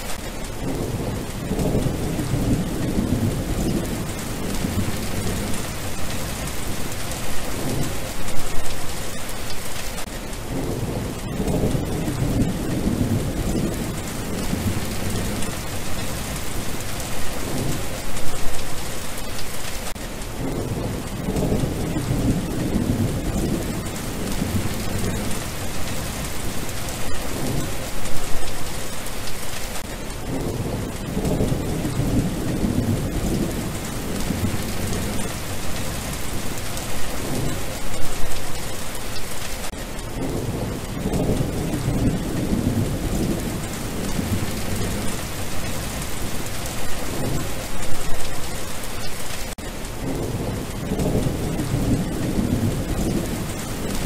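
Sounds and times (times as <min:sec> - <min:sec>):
low thunder rumbles: 0:00.0 - 0:09.2, 0:10.0 - 0:19.0, 0:19.6 - 0:54.0
rain falling on wet ground: 0:00.0 - 0:54.0.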